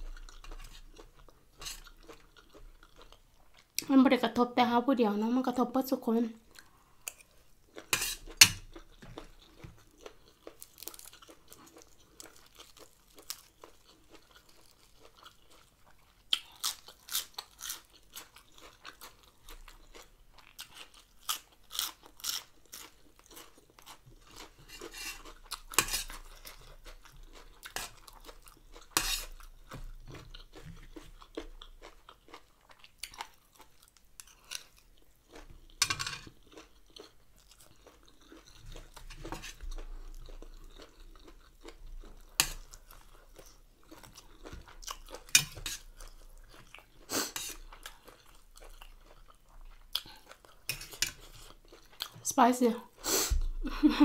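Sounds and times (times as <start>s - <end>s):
woman chewing crunchy food: 0.0s - 3.9s, 6.4s - 52.3s.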